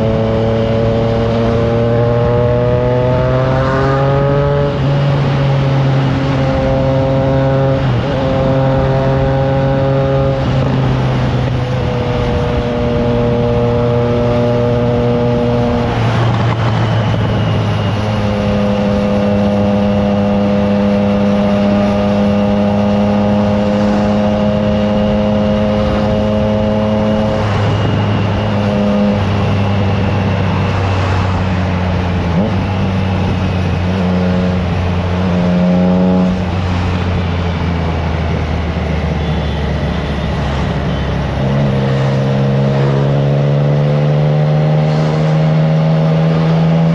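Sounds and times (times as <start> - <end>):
motorcycle engine at road speed: 0.0 - 46.9.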